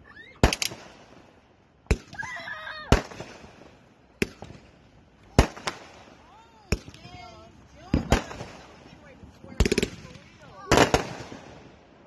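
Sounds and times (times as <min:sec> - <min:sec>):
fireworks crackle: 0:00.1 - 0:12.0
fireworks bangs: 0:00.2 - 0:11.9.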